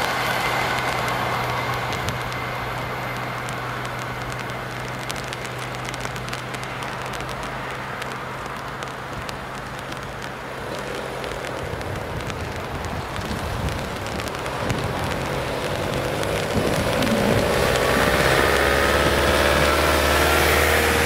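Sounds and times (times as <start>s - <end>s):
faint clicks and crackles: 0.0s - 21.0s
passing train noise: 0.0s - 21.0s.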